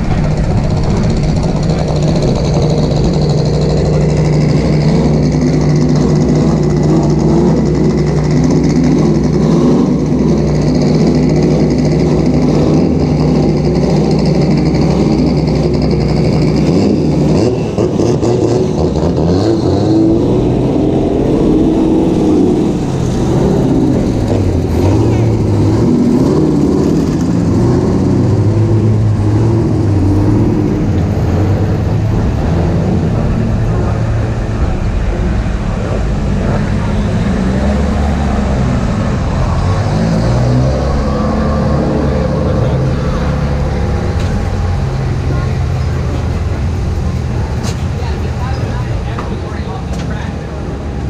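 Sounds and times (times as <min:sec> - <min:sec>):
car engine running at low revs: 0:00.0 - 0:51.0.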